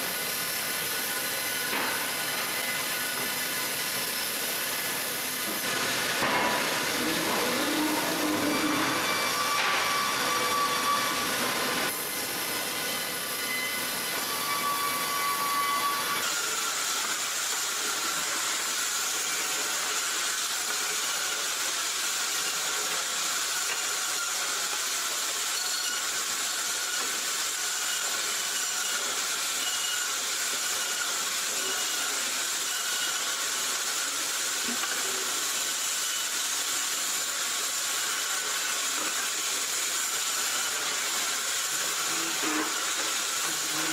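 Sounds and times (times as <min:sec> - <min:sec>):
machinery hissing: 0:00.0 - 0:43.9.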